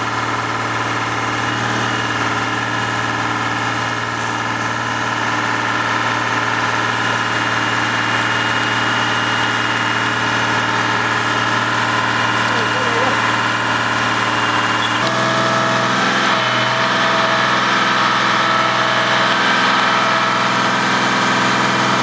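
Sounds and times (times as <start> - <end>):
heavy machinery engine drone: 0.0 - 22.0.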